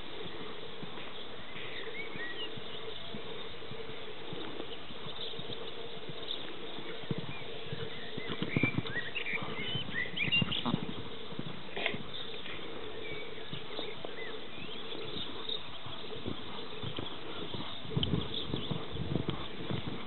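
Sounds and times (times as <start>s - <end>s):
birds chirping: 0.0s - 20.0s
hoofbeats on sand: 0.0s - 20.0s.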